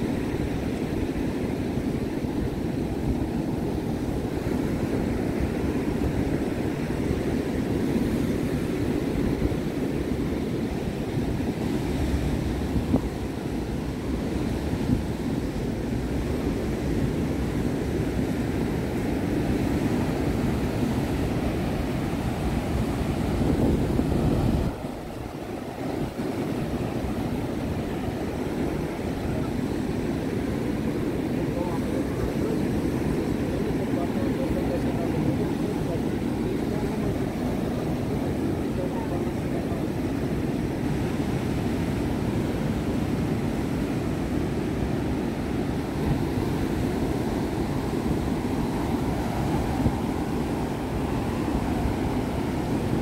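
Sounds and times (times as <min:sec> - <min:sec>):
surf: 0:00.0 - 0:53.0
wind noise: 0:00.0 - 0:53.0.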